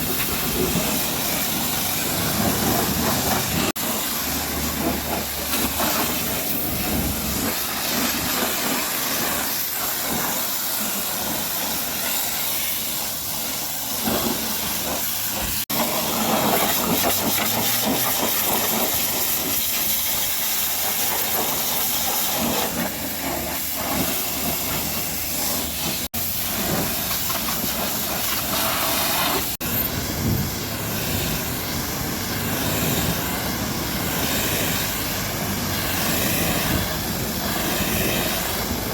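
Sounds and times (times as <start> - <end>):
high-pressure water spray hissing: 0.0 - 38.9.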